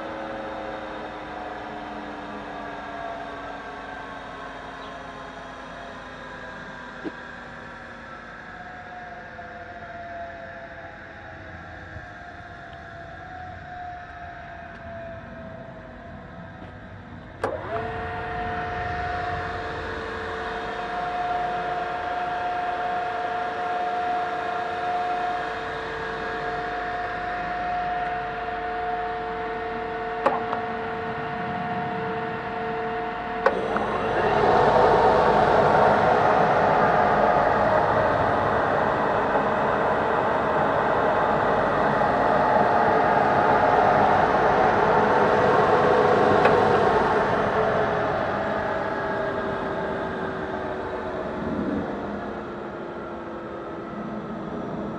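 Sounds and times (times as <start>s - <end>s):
machine tool motor whine: 0.0s - 54.9s.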